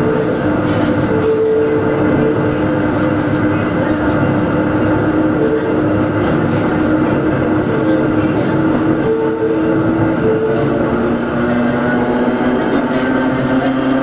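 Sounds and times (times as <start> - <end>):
train rumble from inside: 0.0 - 14.0.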